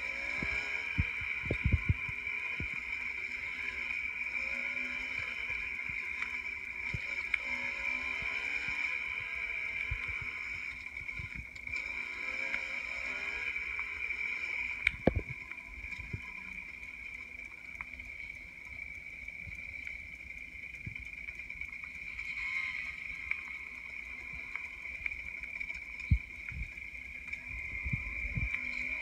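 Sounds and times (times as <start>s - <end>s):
dirt bike engine through speakers: 0.0s - 29.0s.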